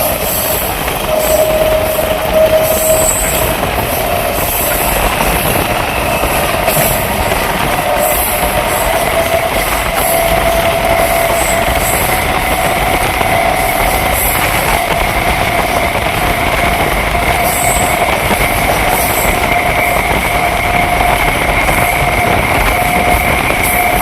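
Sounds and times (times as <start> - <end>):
train wheels rushing on rail: 0.0 - 24.0.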